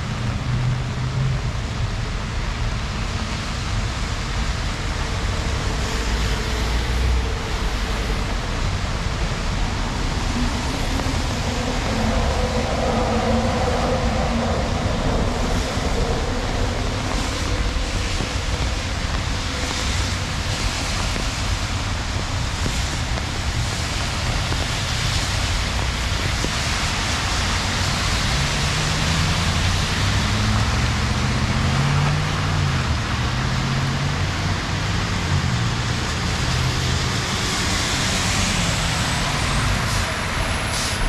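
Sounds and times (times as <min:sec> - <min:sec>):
heavy rain on a street: 0:00.0 - 0:41.0
wet traffic passing: 0:00.0 - 0:41.0.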